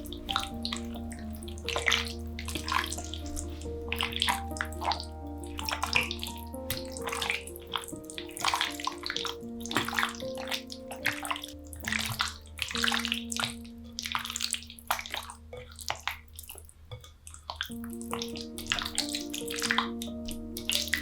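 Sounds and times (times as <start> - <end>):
slow background music: 0.0 - 16.6, 17.6 - 21.0
water splashing at sink: 0.0 - 21.0.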